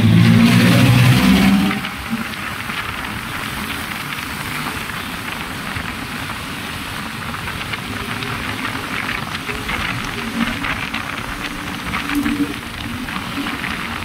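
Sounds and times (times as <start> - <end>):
road noise: 0.0 - 14.0
rushing wind: 0.0 - 14.0.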